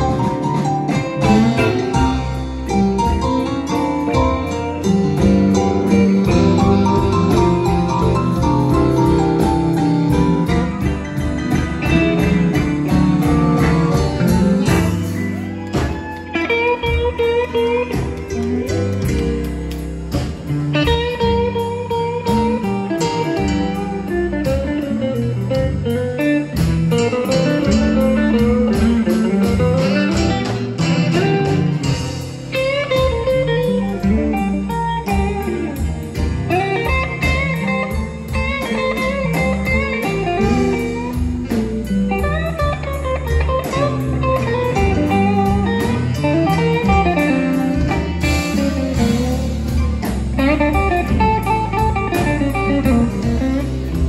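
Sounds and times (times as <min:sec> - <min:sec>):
live blues band playing: 0:00.0 - 0:54.0.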